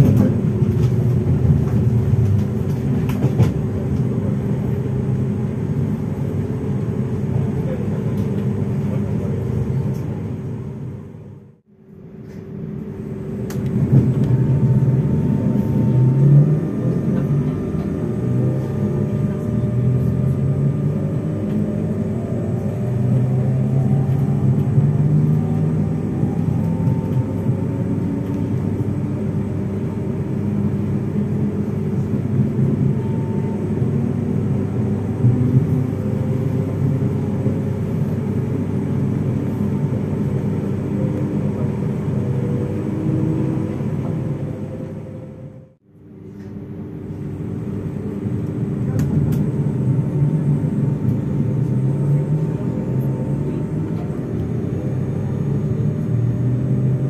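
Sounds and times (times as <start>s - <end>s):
electric train motor hum and whine: 0.0s - 57.0s.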